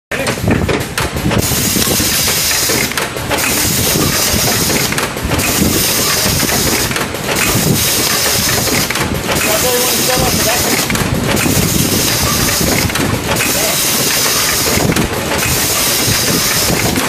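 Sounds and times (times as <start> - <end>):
mechanical clatter: 0.1 - 17.0
packing machine hissing: 1.0 - 17.0.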